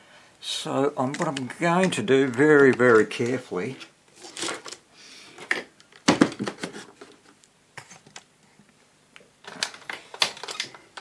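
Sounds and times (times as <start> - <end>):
clicks and knocks of handling: 1.0 - 4.8, 5.4 - 11.0.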